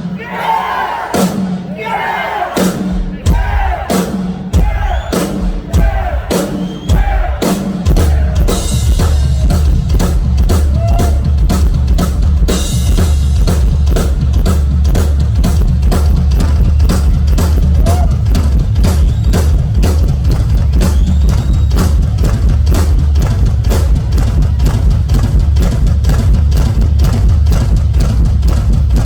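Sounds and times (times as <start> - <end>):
fast drum strikes: 2.4 - 29.0
bass drum pounding: 2.6 - 29.0.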